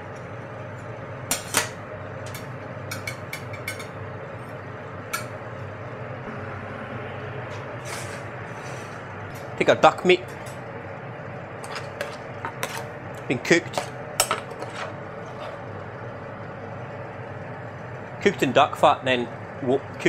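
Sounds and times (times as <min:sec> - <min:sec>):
steady kitchen hum: 0:00.0 - 0:20.0.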